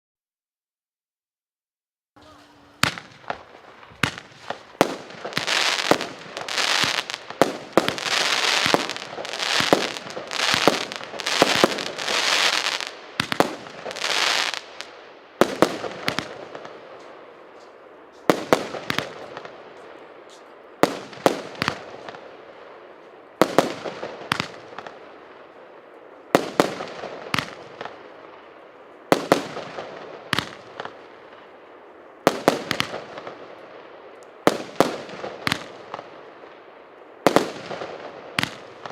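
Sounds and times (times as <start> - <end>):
fireworks bangs: 2.2 - 38.9
fizzing fireworks crackle: 2.2 - 38.9.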